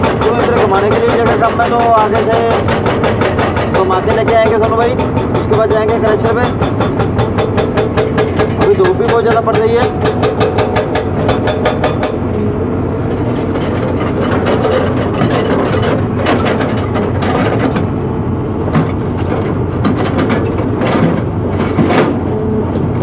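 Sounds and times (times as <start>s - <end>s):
hydraulic breaker hammering rock: 0.0s - 12.4s, 13.2s - 17.9s, 18.7s - 23.0s
diesel engine running: 0.0s - 23.0s.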